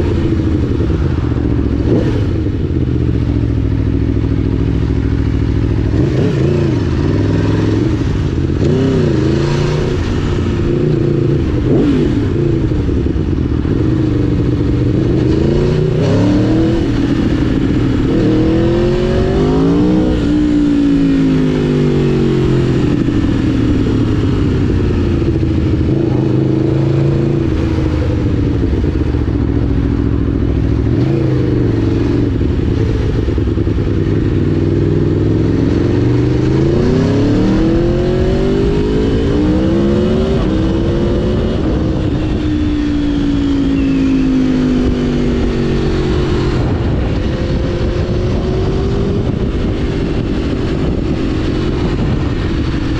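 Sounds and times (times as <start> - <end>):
motorcycle engine revving: 0.0 - 52.9
wind and road noise: 0.0 - 52.9.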